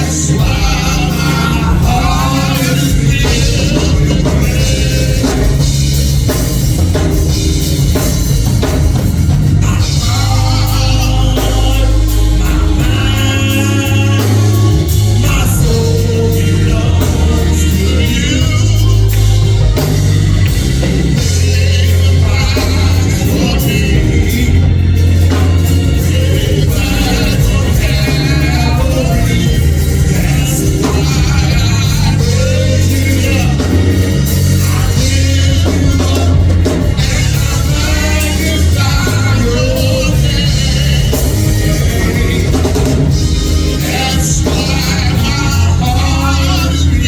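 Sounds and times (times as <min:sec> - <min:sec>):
bass guitar: 0:00.0 - 0:47.0
drums: 0:00.0 - 0:47.0
people singing: 0:00.0 - 0:47.0.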